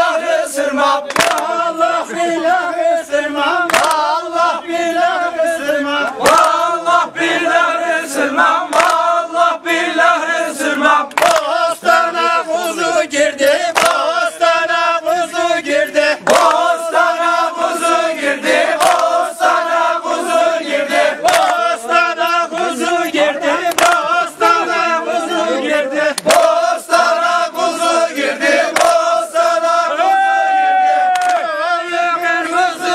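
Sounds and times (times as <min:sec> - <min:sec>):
men singing in unison: 0:00.0 - 0:32.9.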